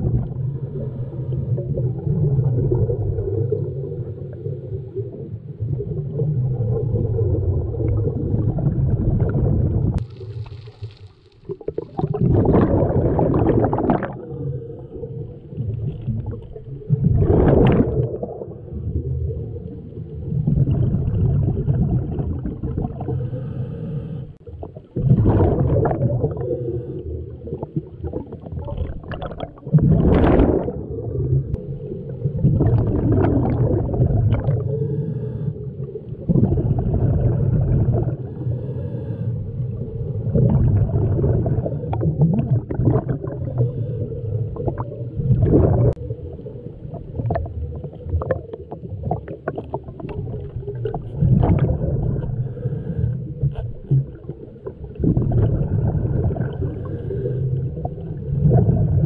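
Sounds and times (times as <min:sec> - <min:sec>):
low rumble: 0:00.0 - 0:28.1, 0:29.0 - 0:59.0
exhaled bubbles gurgling: 0:00.0 - 0:59.0.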